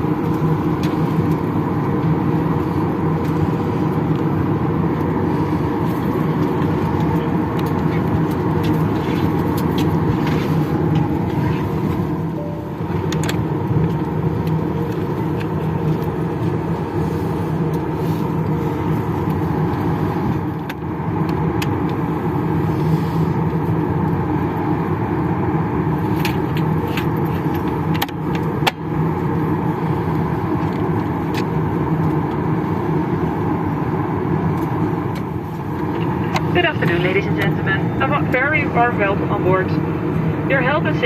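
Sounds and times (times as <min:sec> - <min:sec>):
aircraft cabin ventilation hum: 0:00.0 - 0:41.0.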